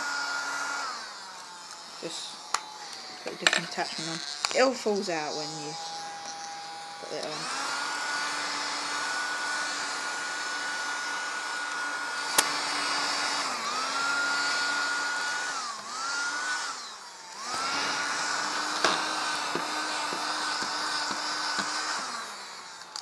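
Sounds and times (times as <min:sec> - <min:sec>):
handheld vacuum cleaner whining: 0:00.0 - 0:23.0.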